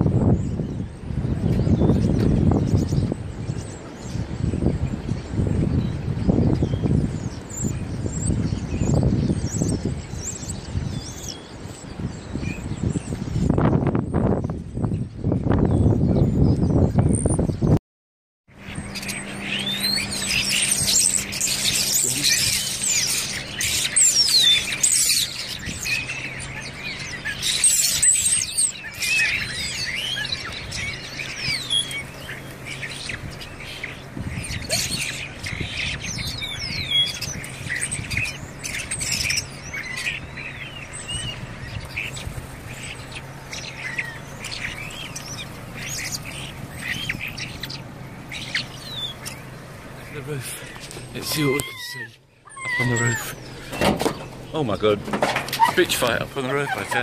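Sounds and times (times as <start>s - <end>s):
starlings chattering: 0.0s - 17.8s, 18.5s - 57.0s.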